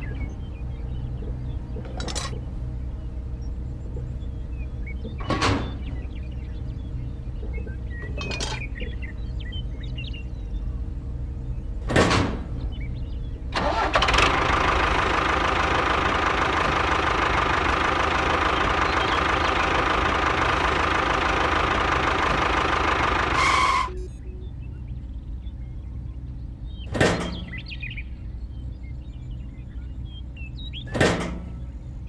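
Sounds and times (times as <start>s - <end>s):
loud engine run with whine: 0.0s - 32.0s
low engine idle: 0.0s - 32.0s.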